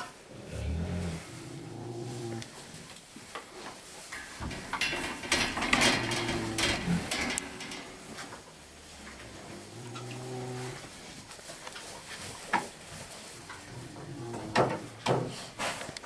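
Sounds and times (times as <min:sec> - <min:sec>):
rustling in wood shavings: 0:00.3 - 0:05.3, 0:06.2 - 0:16.0.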